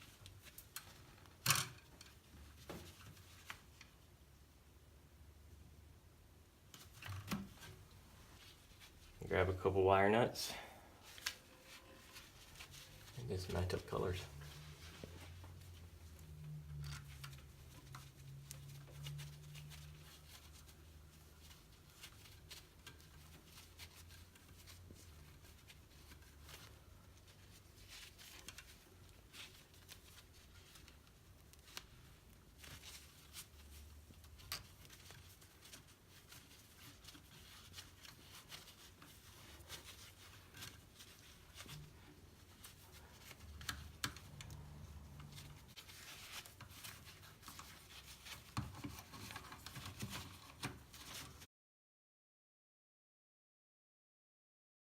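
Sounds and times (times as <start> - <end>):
clicks and rustles of wires: 0.0 - 4.0, 6.6 - 9.2, 10.5 - 51.5.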